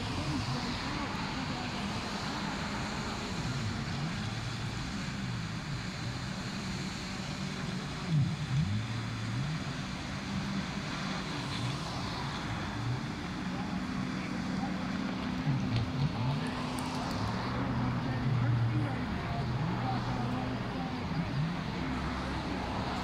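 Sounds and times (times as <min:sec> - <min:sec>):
jet ski engines whining: 0:00.0 - 0:23.0.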